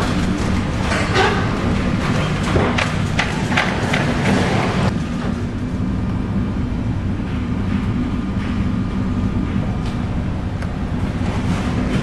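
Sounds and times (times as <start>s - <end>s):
ship machinery humming: 0.0s - 12.0s.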